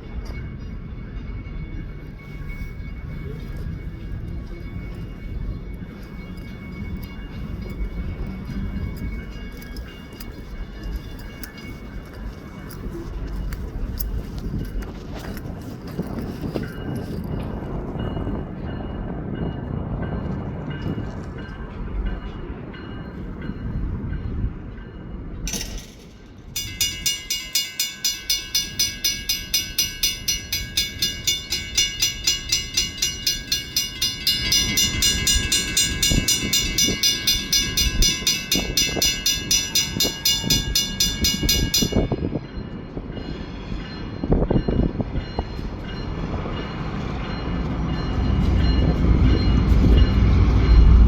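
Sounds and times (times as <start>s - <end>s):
diesel freight train rumble: 0.0s - 51.0s
railroad crossing bell ringing: 0.0s - 51.0s.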